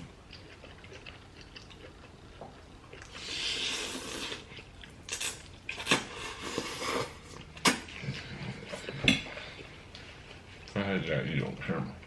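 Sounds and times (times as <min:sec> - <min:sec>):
mouth eating noises: 0:00.0 - 0:10.8.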